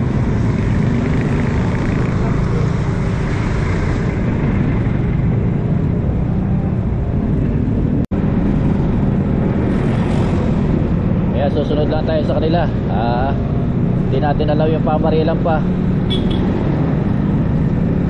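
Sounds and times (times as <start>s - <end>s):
wind rumble: 0.0s - 18.0s.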